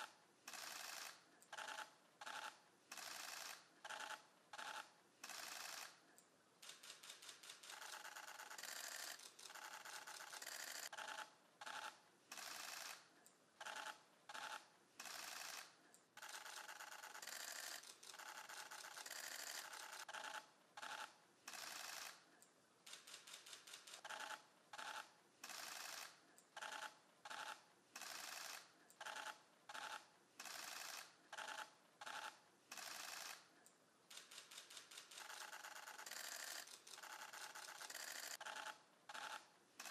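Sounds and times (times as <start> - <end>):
faint camera shutter bursts: 0.0 - 6.0, 6.6 - 22.2, 22.8 - 33.5, 34.1 - 39.9.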